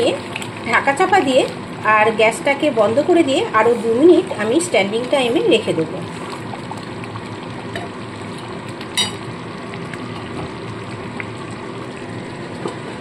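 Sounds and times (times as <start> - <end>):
gravy simmering in a wok: 0.0 - 13.0.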